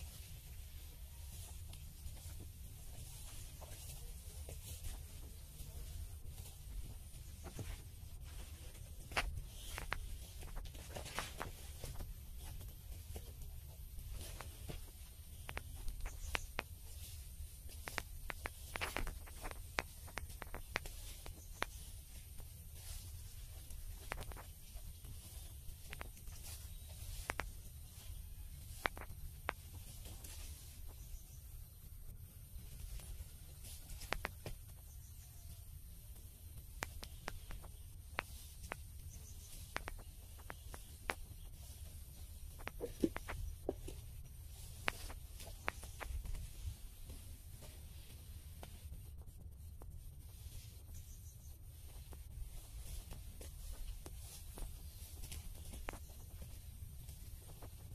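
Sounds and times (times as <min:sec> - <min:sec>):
light clicks and crackles: 0:00.0 - 0:57.9.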